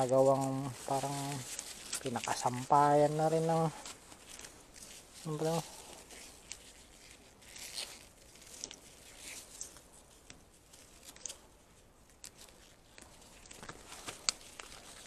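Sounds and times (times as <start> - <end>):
rustling of leafy vines: 0.0 - 15.0.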